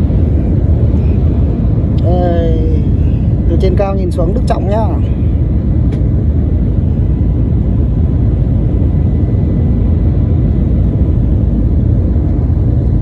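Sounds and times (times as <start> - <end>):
airliner engine rumble in cabin: 0.0 - 13.0.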